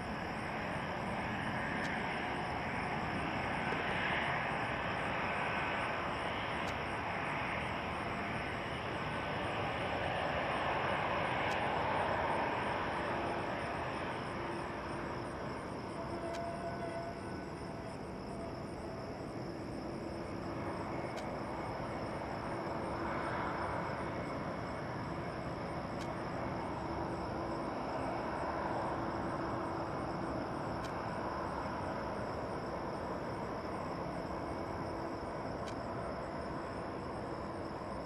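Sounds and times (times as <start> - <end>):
jet engines rushing hum: 0.0 - 16.5, 17.1 - 38.0.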